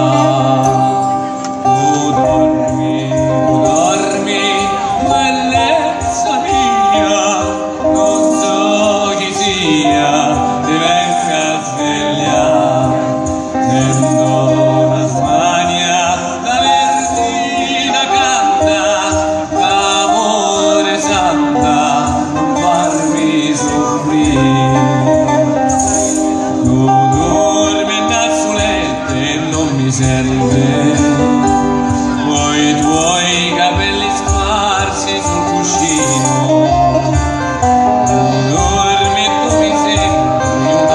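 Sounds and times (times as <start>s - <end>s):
man singing: 0.0s - 40.9s.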